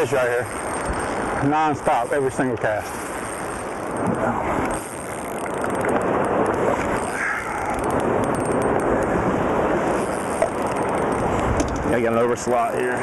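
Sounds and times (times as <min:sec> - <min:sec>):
waves washing around boat: 0:00.0 - 0:13.0
wind buffeting microphone: 0:00.0 - 0:13.0.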